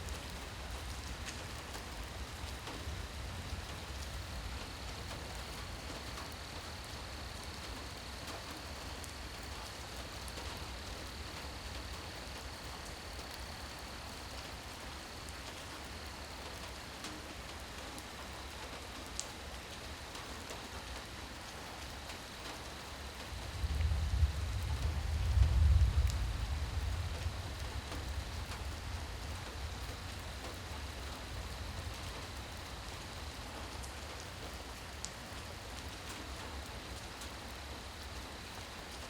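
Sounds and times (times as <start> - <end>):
rain pattering on surfaces: 0.0 - 39.0.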